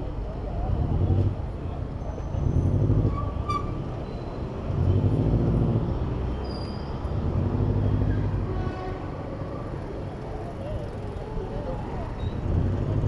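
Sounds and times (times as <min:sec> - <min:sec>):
steady traffic rumble: 0:00.0 - 0:13.0.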